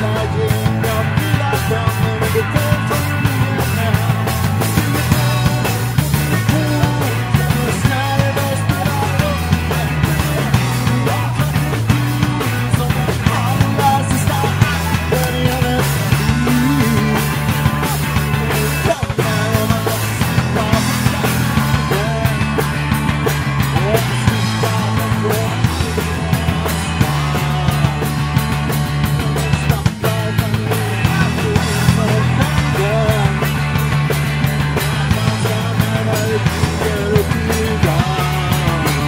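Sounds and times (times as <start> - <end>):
bass guitar: 0.0 - 39.0
drums: 0.0 - 39.0
electric guitars: 0.0 - 39.0
man singing lead vocal: 0.0 - 39.0.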